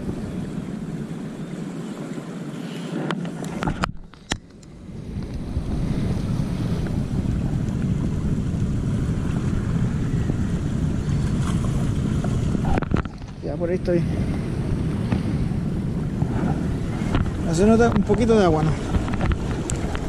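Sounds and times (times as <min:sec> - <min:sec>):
ocean surf: 0:00.0 - 0:20.0
wind rumbling on microphone: 0:00.0 - 0:20.0.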